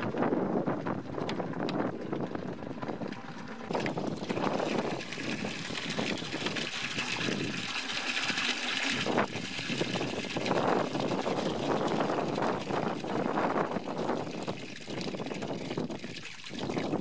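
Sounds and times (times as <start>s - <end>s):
wind on microphone: 0.0s - 8.0s, 8.8s - 17.0s
water pouring into plastic bucket: 0.1s - 17.0s.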